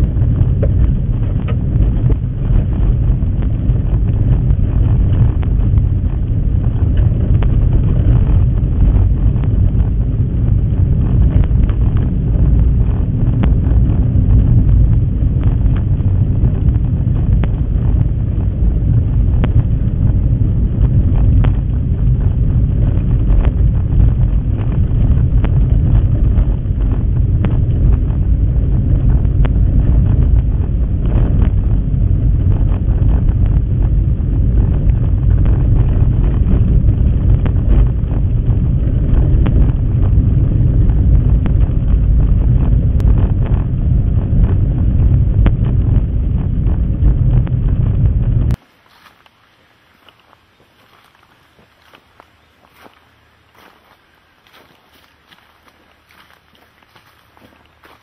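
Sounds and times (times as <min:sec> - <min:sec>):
vehicle engine and tyres rumbling: 0:00.0 - 0:58.0.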